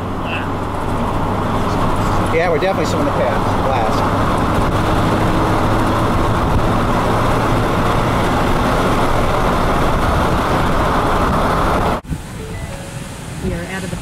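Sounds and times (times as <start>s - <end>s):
car engine hum: 0.0s - 14.0s
road and wind noise: 0.0s - 14.0s.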